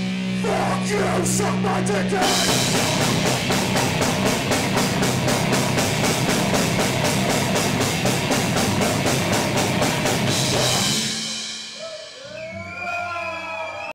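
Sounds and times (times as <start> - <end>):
distorted guitars: 0.0 - 11.8
fast drum hits: 0.0 - 11.9
heavy metal band playing live: 0.0 - 12.2.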